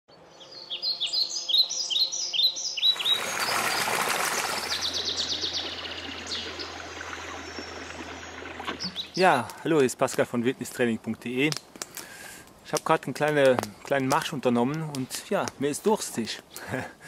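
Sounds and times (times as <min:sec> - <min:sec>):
songbirds chirping: 0:00.1 - 0:17.0.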